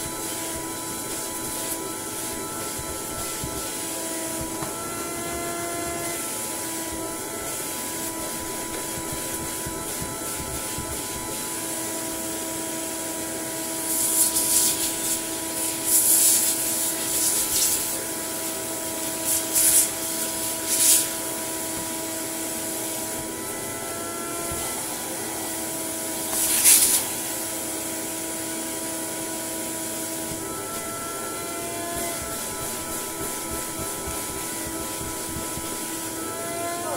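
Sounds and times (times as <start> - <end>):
vacuum cleaner motor whine: 0.0 - 36.9
vacuum sucking hissing rush: 0.0 - 36.9.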